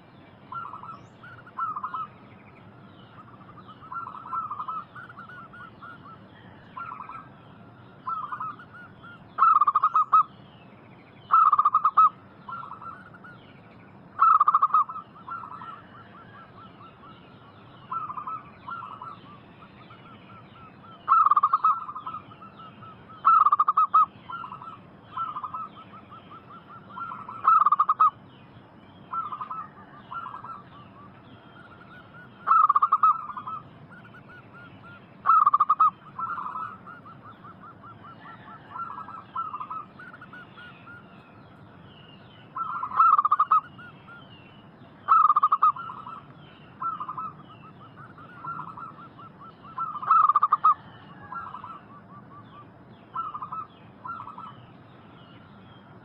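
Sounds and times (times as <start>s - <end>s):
dove cooing: 0.5s - 2.1s, 3.1s - 7.3s, 8.0s - 10.3s, 11.3s - 13.3s, 14.2s - 17.1s, 17.8s - 28.2s, 29.1s - 41.0s, 42.6s - 44.2s, 45.1s - 54.6s.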